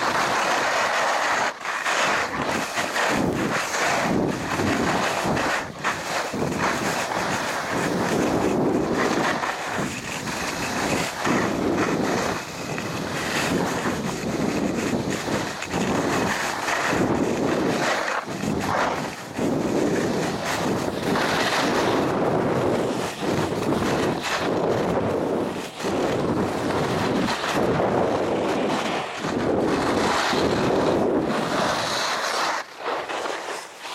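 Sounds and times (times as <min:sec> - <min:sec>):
wind buffeting microphone: 0:00.0 - 0:01.4, 0:02.0 - 0:33.1
skis scraping over snow: 0:00.0 - 0:33.9.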